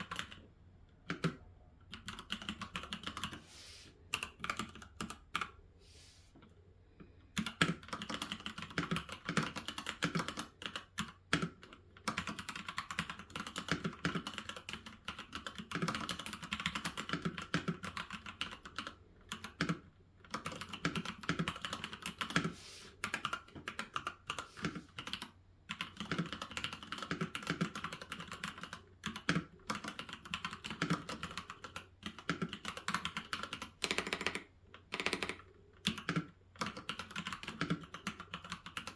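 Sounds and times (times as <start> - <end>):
typing on computer keyboard: 0.0 - 3.4, 4.1 - 5.6, 7.3 - 38.9.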